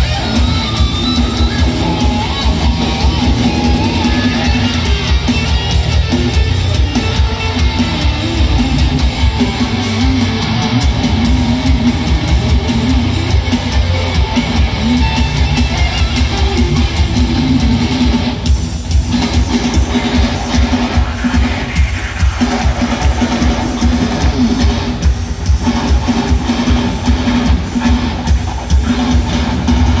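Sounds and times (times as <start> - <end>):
heavy metal band playing live: 0.0 - 30.0.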